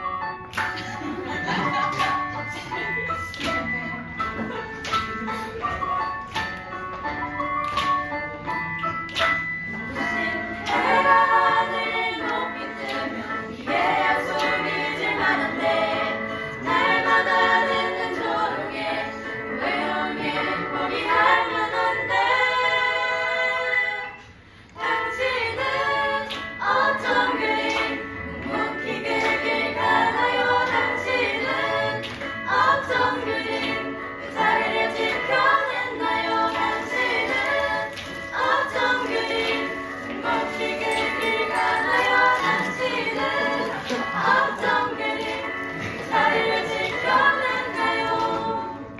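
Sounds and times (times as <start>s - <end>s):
group singing praise song: 9.7s - 48.9s.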